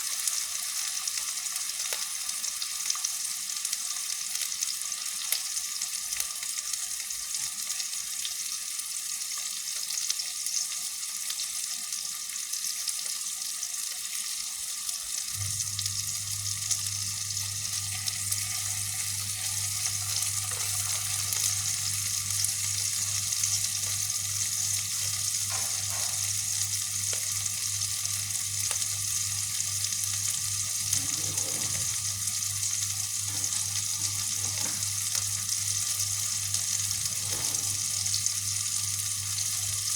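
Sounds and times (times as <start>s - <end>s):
meatballs sizzling in hot oil: 0.0s - 39.9s.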